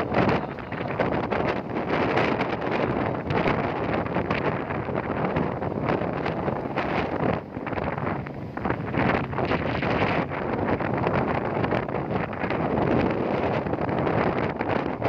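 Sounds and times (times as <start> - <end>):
boat rushing noise: 0.0 - 15.0
wind buffeting microphone: 0.0 - 15.0.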